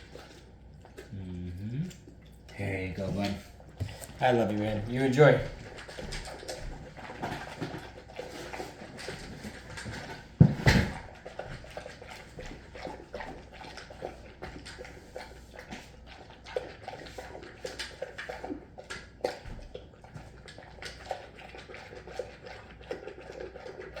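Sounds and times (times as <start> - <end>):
dog chewing and lapping food: 0.0 - 24.0.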